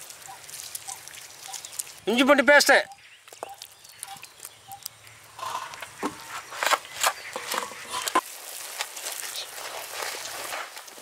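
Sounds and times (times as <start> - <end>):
wet squishes of food mixed by hand: 0.0 - 11.0.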